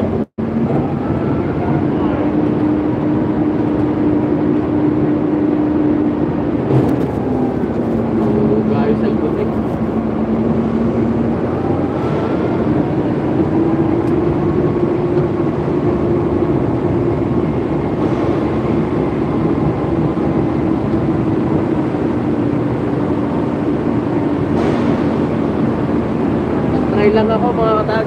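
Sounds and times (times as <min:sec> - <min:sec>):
forklift motor hum: 0:00.0 - 0:28.0.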